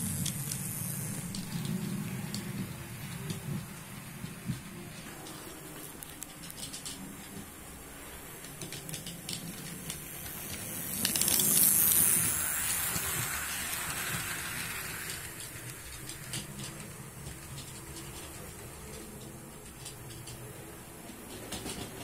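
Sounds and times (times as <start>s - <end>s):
model train wheels rumbling on rails: 0.0s - 22.0s.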